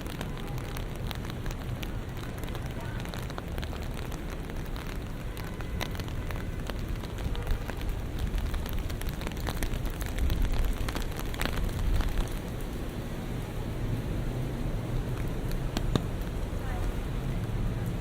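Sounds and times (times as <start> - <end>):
low rumble of traffic: 0.0 - 18.0
rain drops ticking: 0.0 - 18.0.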